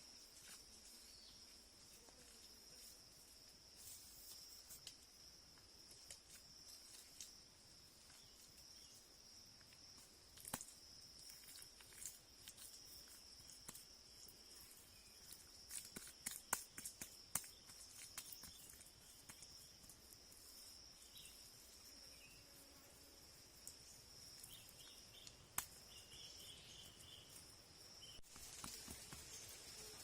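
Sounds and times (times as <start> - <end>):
insects droning high-pitched: 0.0 - 30.0.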